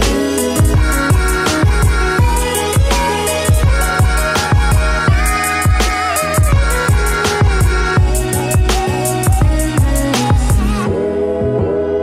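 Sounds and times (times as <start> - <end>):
crisp high percussion: 0.0 - 11.0.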